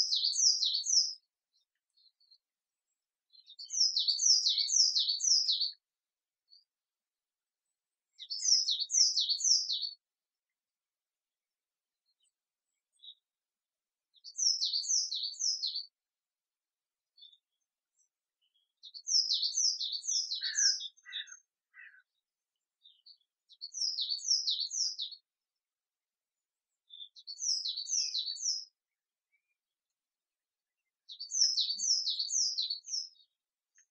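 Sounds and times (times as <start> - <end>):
songbird singing: 0.0 - 6.8, 7.5 - 10.1, 11.9 - 13.4, 14.0 - 16.0, 17.0 - 33.9.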